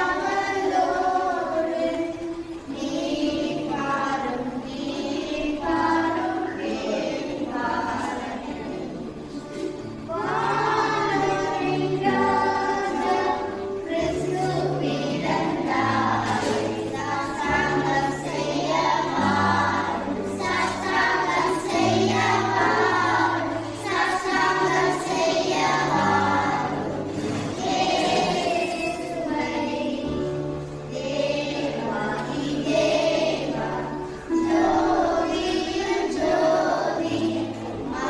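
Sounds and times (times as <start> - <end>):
accompaniment with low held notes: 0.0 - 38.0
children's choir singing: 0.0 - 38.0.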